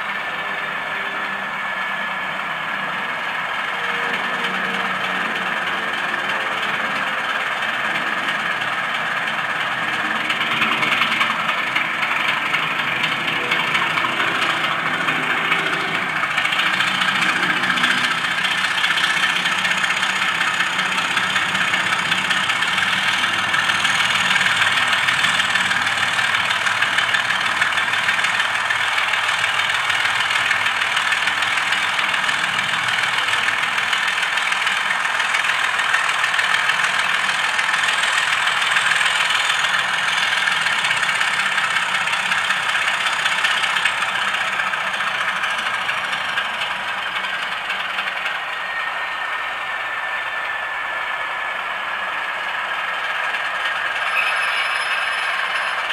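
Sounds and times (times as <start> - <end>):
diesel engine through small speaker: 0.0 - 55.9.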